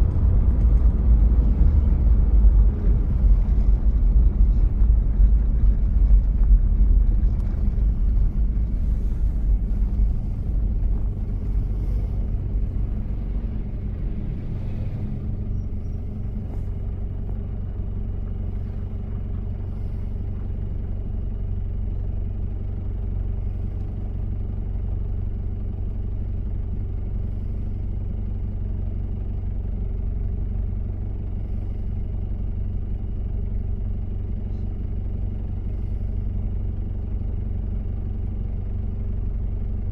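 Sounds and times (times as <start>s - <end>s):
diesel engine rumble while driving: 0.0s - 39.9s.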